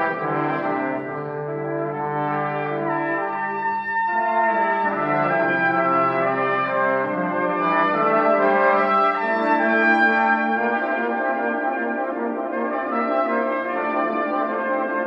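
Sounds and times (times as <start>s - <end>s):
brass quintet playing chords: 0.0s - 15.0s.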